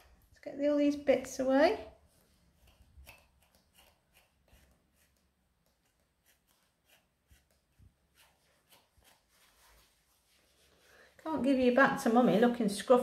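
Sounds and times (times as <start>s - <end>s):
comb rustling through fur: 2.0s - 13.0s.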